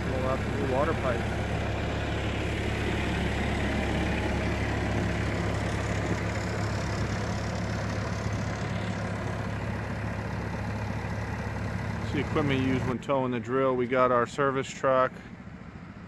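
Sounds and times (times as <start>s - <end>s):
engine idling low drone: 0.0s - 16.0s.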